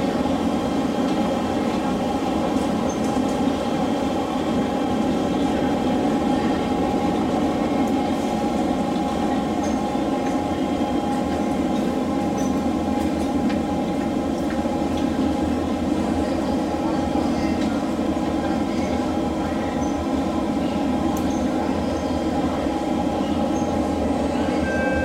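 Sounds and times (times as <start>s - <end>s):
wheels rumbling on rail: 0.0s - 25.0s.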